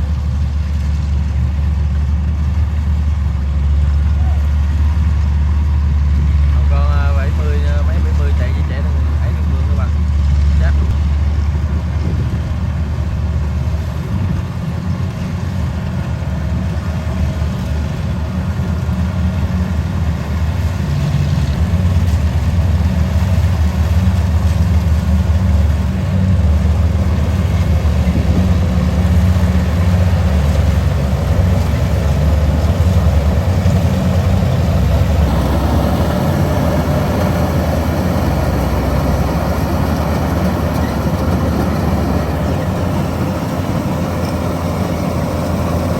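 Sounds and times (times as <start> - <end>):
combine harvester engine rumbling: 0.0 - 45.9.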